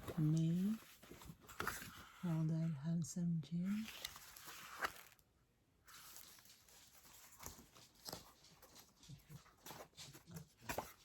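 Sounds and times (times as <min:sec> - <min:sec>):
calendar page flipping: 0:00.0 - 0:02.5, 0:03.7 - 0:05.2, 0:05.9 - 0:11.0.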